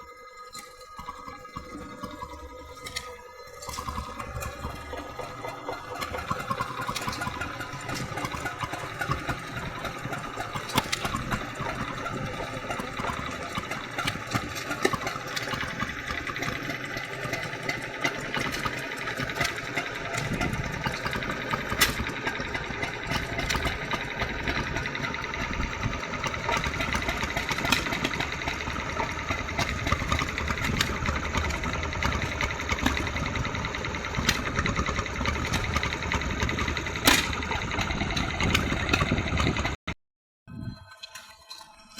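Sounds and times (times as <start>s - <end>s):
stationary engine running: 0.0s - 39.9s
engine clicks and knocks: 0.5s - 39.9s.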